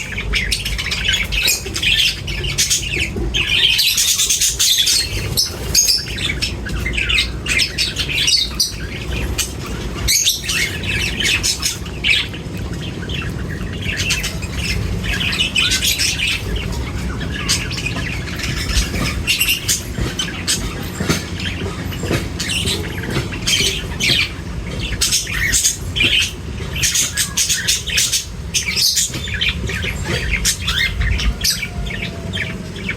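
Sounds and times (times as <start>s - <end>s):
birds chirping and squawking: 0.0s - 32.9s.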